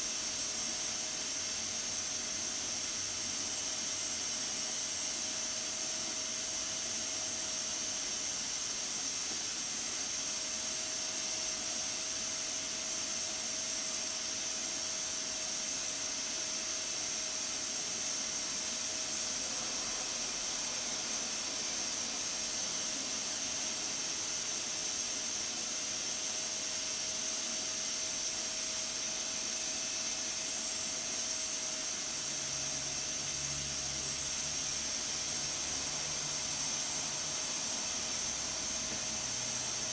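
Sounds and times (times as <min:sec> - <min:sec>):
pressure cooker steam hissing: 0:00.0 - 0:39.9.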